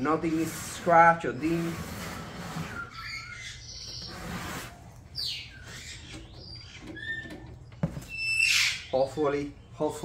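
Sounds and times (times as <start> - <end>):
bird chirps and squeaky calls: 0.8 - 10.0.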